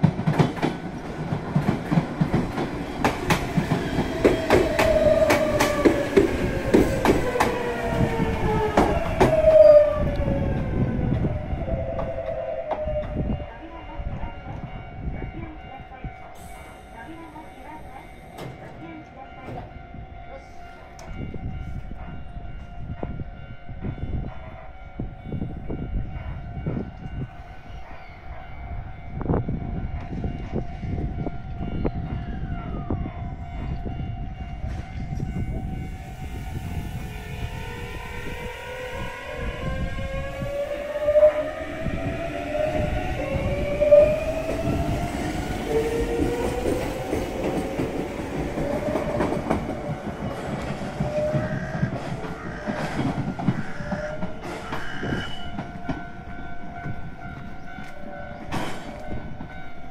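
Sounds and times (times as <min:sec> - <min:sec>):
electric train humming: 0:00.0 - 0:24.2, 0:25.0 - 0:59.9.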